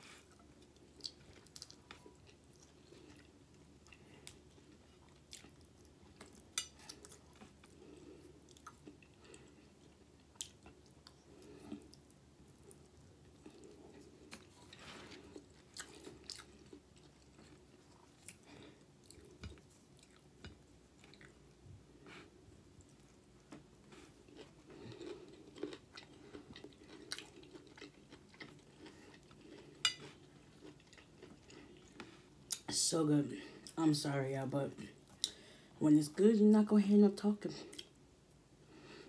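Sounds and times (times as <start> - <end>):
person chewing: 0.0 - 32.7, 37.7 - 38.0.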